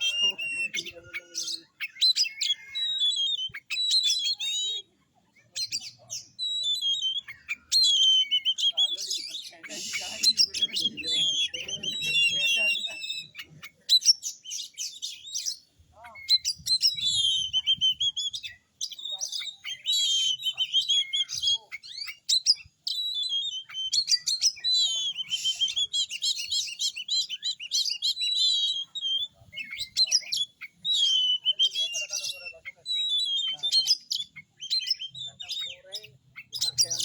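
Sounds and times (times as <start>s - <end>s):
songbird whistling and trilling: 0.0s - 37.0s.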